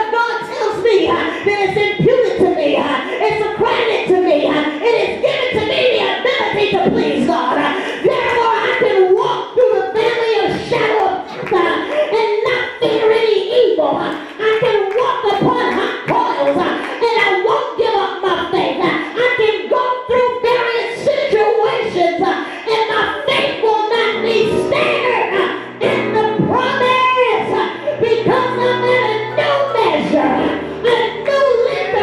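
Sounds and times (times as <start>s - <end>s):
woman singing into a microphone: 0.0s - 32.0s.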